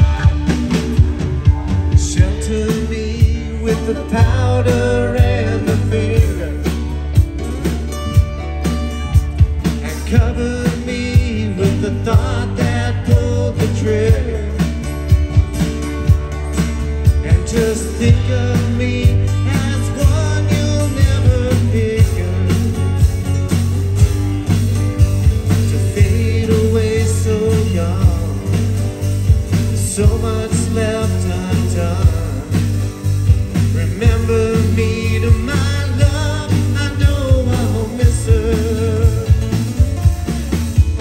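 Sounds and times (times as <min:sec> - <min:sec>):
person singing lead vocal: 0:00.0 - 0:07.9, 0:09.5 - 0:14.9, 0:17.0 - 0:23.2, 0:25.4 - 0:28.8, 0:29.5 - 0:39.8
acoustic guitar strumming: 0:00.0 - 0:41.0
drum kit beat: 0:00.0 - 0:41.0
keyboard: 0:00.0 - 0:41.0.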